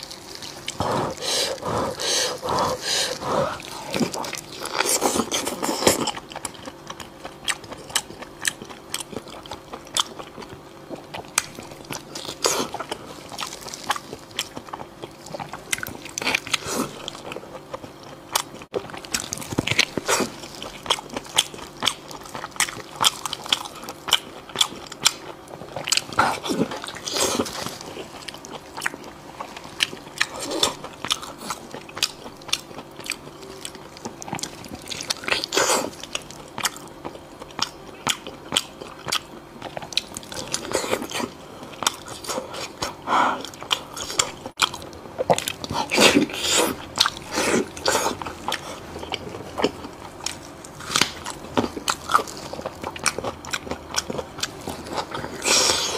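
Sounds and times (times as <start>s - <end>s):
person chewing meat: 0.0s - 55.9s.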